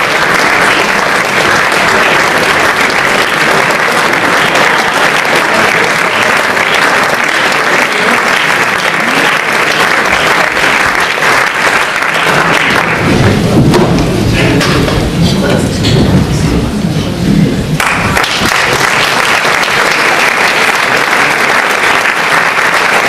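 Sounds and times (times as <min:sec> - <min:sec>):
audience applauding: 0:00.0 - 0:14.6, 0:17.8 - 0:23.0.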